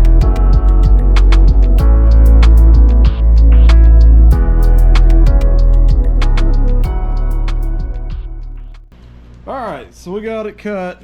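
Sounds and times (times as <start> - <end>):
background music with deep bass: 0.0 - 8.9.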